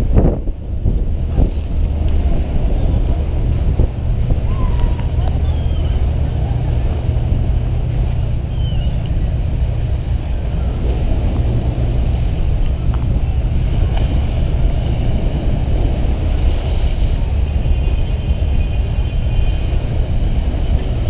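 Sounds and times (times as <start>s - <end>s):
steady low rumble: 0.0s - 21.0s
wind buffeting microphone: 0.0s - 21.0s.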